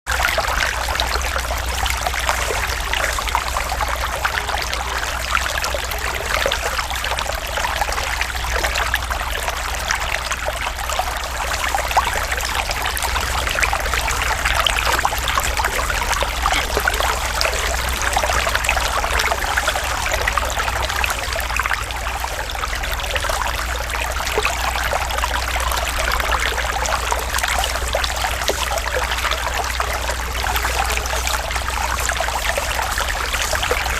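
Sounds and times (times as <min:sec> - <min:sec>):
water trickling and splashing: 0:00.1 - 0:33.9.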